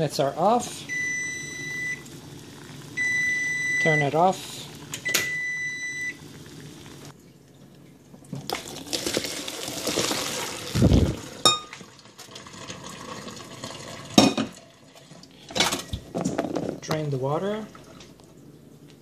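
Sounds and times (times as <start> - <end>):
water boiling in a pot: 0.0 - 18.7
water gushing into colander: 0.0 - 18.7
water dribbling through colander: 0.9 - 19.0.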